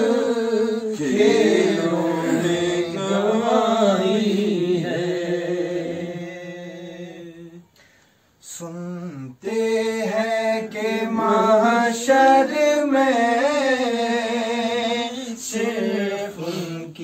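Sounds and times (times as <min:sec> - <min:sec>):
men singing unaccompanied: 0:00.0 - 0:07.7, 0:08.4 - 0:17.0.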